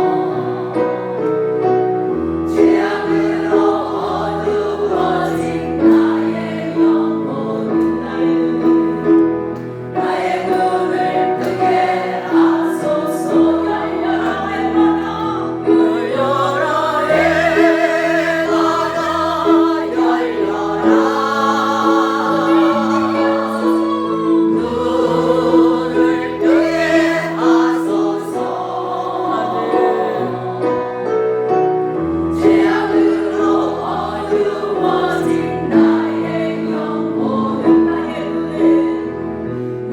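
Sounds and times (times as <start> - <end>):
choir singing praise song: 0.0 - 31.5, 32.2 - 39.9.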